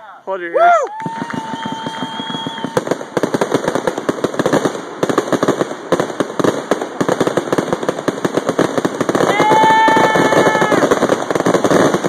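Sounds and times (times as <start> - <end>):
fireworks bangs and crackles: 0.7 - 12.0.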